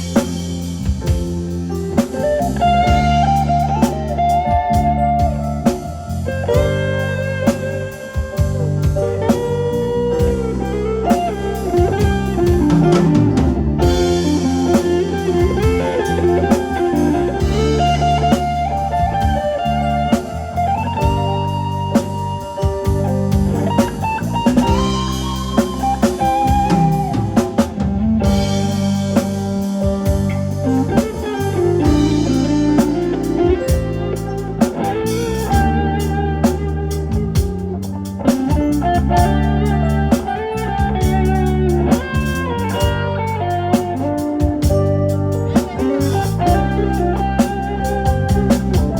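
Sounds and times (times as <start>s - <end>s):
drum kit: 0.0s - 48.9s
guitar melody: 0.0s - 48.9s.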